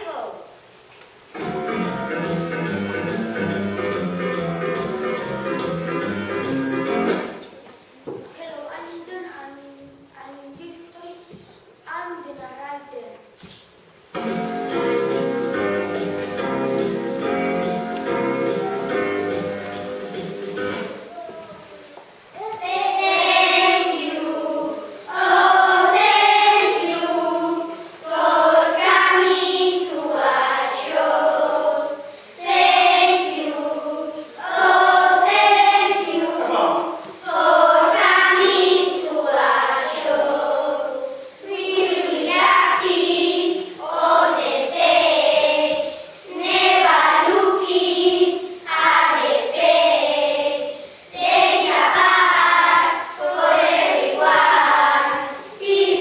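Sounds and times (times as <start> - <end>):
children singing together: 1.4 - 7.4, 14.2 - 21.7, 22.4 - 56.0.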